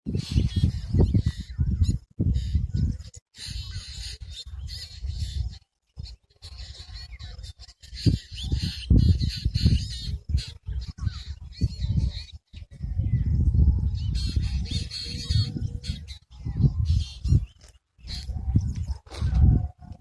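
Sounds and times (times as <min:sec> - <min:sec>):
birds chirping and calling: 0:00.1 - 0:20.0.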